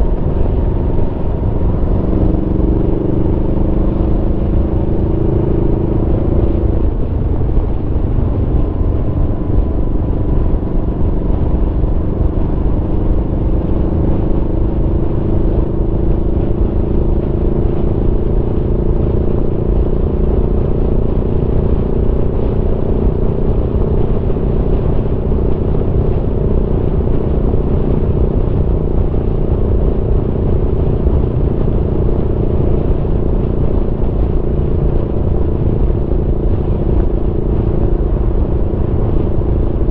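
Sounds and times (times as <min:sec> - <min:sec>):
low rumble: 0:00.0 - 0:39.9
motorcycle engine running: 0:00.0 - 0:39.9.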